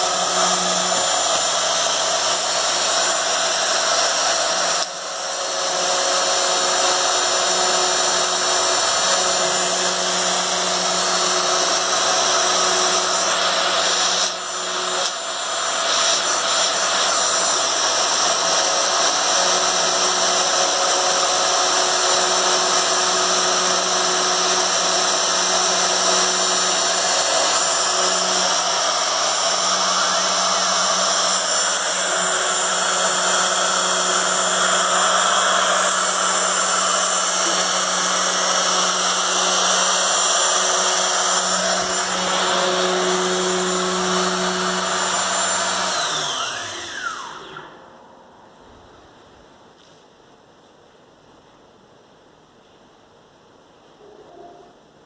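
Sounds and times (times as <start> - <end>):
cnc machine motor whine: 0.0 - 48.0.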